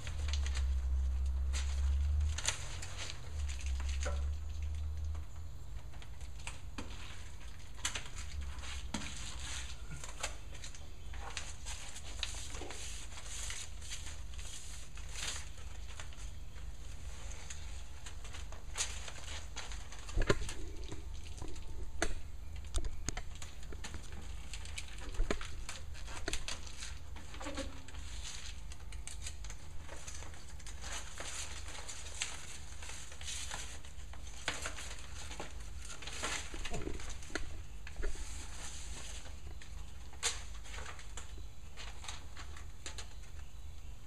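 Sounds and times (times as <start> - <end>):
crinkling foil bubble-wrap: 0.0 - 44.0
steady low hum: 0.0 - 44.0.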